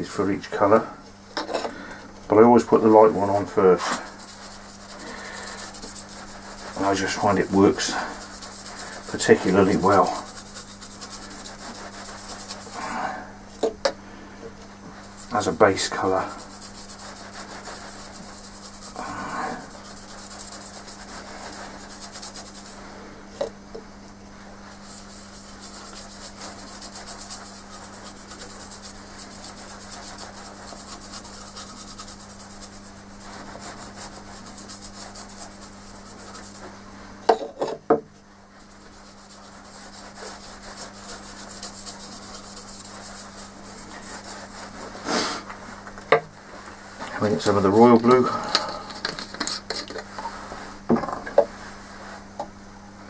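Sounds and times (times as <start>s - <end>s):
paintbrush scrubbing on wood: 2.3s - 13.6s, 14.7s - 36.8s, 38.4s - 45.9s, 46.5s - 50.8s.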